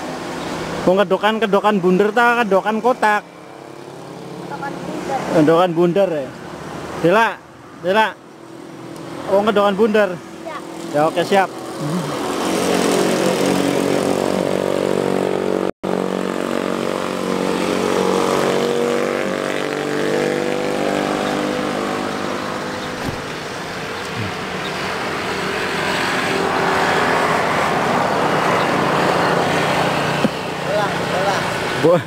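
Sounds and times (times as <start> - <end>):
passing traffic engine drone: 0.0 - 32.0.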